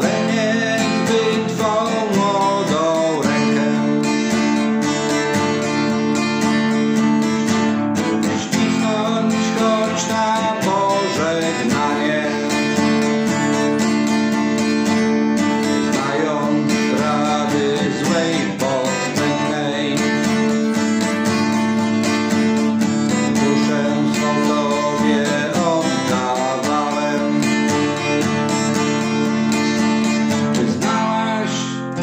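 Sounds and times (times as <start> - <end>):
acoustic guitar strummed: 0.0 - 32.0.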